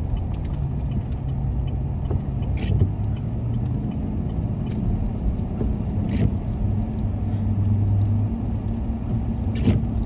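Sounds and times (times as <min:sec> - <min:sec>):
engine and tyre rumble: 0:00.0 - 0:10.0.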